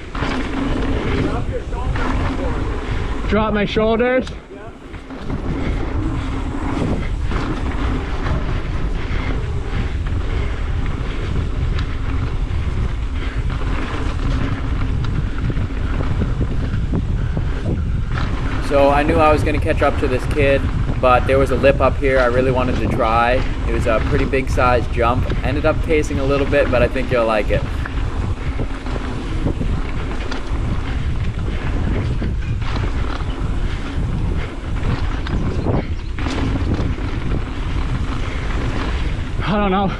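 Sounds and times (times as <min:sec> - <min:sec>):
bike clattering over bumps: 0:00.0 - 0:39.9
tyres rolling over dirt: 0:00.0 - 0:39.9
wind buffeting microphone: 0:00.0 - 0:39.9.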